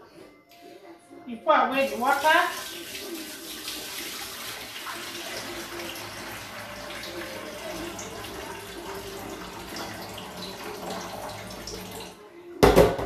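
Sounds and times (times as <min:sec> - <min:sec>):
water splashing in sink: 0:01.8 - 0:12.9.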